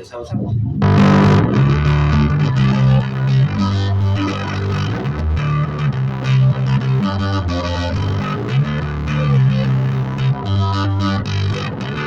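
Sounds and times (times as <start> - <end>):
distorted bass guitar line: 0.4 - 12.0.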